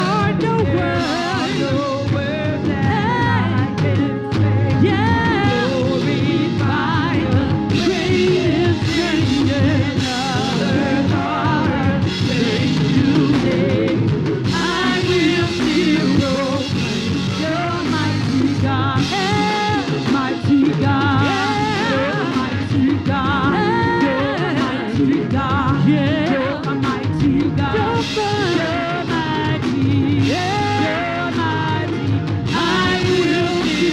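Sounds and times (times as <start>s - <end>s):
drums playing on toms: 0.0s - 33.9s
gospel band with singers: 0.0s - 33.9s.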